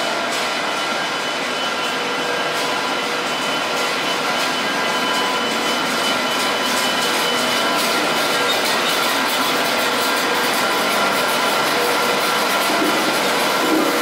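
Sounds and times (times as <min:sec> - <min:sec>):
train blowers whirring: 0:00.0 - 0:14.0
wheels clicking on rails: 0:00.0 - 0:14.0.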